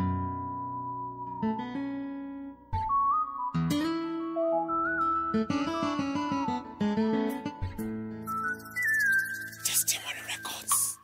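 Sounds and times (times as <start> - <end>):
plucked guitar music: 0.0 - 9.5.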